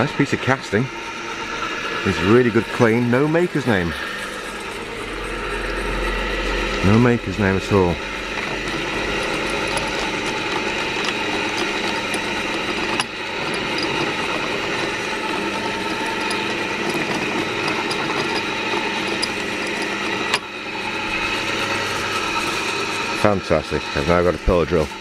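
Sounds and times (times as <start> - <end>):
pillar drill motor running: 0.0 - 25.0.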